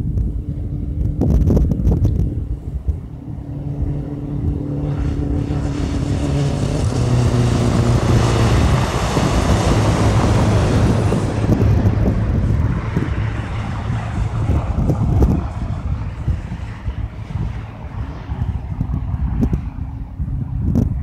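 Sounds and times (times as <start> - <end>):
tyre and road noise: 0.0 - 21.0
vehicle engine hum: 0.0 - 21.0
wind rumble on microphone: 0.0 - 21.0.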